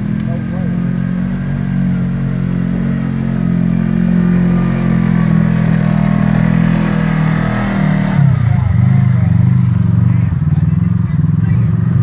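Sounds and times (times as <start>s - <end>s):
utility vehicle engine running: 0.0s - 12.0s.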